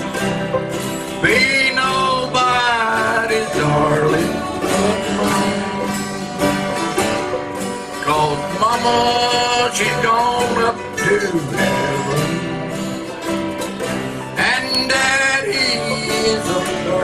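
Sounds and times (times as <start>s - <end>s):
acoustic guitar picking: 0.0s - 17.0s
banjo picking: 0.0s - 17.0s
bluegrass band playing: 0.0s - 17.0s
sliding melody line: 0.0s - 17.0s.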